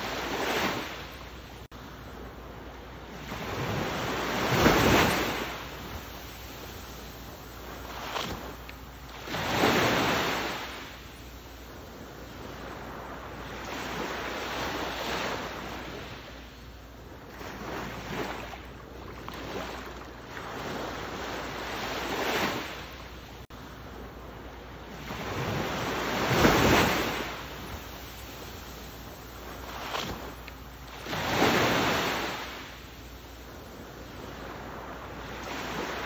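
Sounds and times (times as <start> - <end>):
ocean waves washing in: 0.0 - 36.0.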